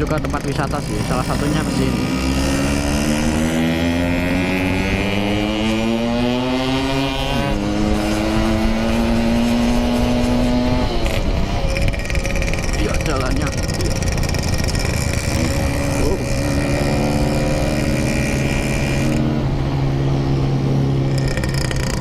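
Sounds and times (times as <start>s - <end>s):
two-stroke motorcycle engine accelerating: 0.0s - 22.0s.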